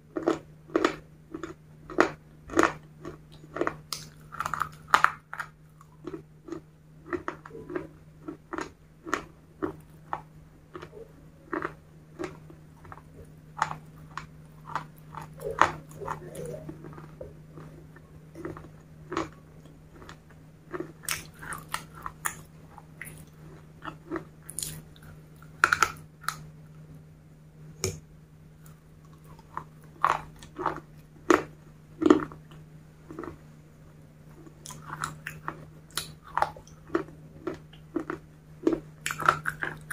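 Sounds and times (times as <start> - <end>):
crunchy chewing: 0.0 - 26.9, 28.6 - 33.5, 34.2 - 39.9.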